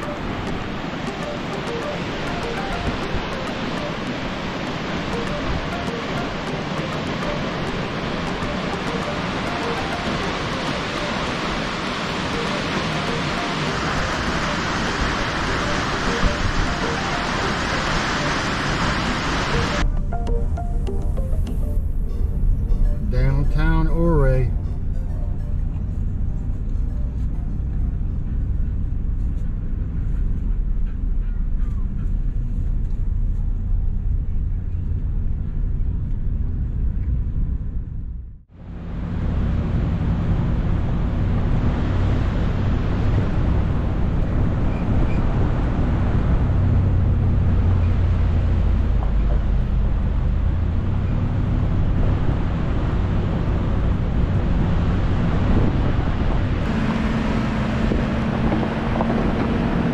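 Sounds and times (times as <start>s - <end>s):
truck engine: 0.0s - 59.9s.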